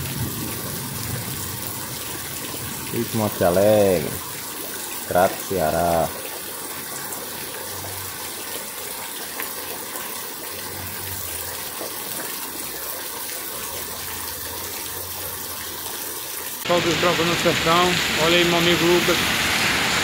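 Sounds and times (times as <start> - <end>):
heavy rain on trees and plants: 0.0 - 20.0.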